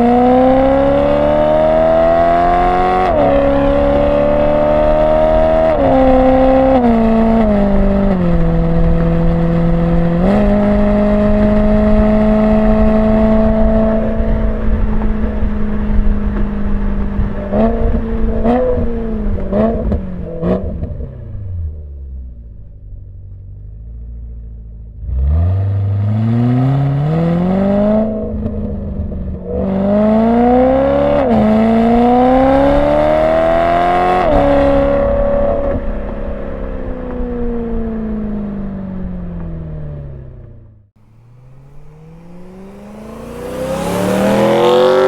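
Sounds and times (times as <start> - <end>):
car engine revving and accelerating: 0.0 - 22.0, 25.0 - 36.0, 41.0 - 45.0.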